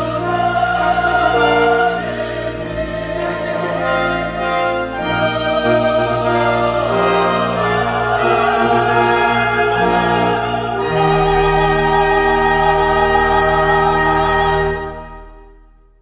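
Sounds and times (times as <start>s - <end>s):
choir singing: 0.0s - 15.6s
grand piano: 0.0s - 15.8s.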